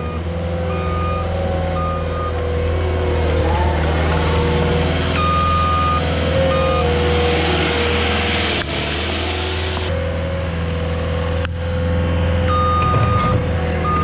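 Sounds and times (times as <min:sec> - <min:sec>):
backup alarm beeping: 0:00.0 - 0:09.7, 0:12.5 - 0:14.0
diesel engine running: 0:00.0 - 0:14.0.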